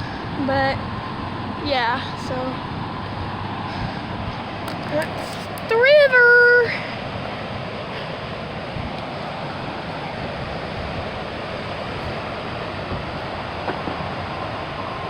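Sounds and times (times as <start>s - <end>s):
river rushing in flood: 0.0s - 15.0s.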